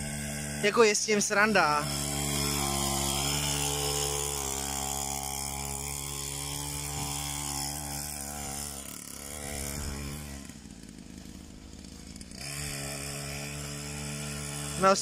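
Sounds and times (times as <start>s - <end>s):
small motorbike engine idling: 0.0s - 15.0s.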